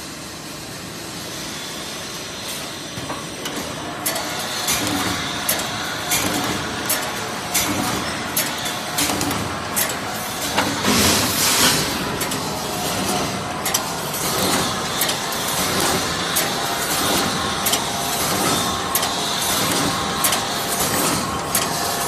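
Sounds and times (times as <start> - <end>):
welding machine running: 0.0 - 22.0
sharp machine clack: 3.4 - 22.0.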